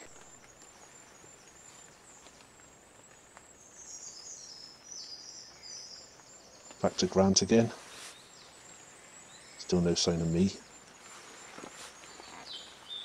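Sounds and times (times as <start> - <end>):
faint woodland background: 0.0 - 13.0.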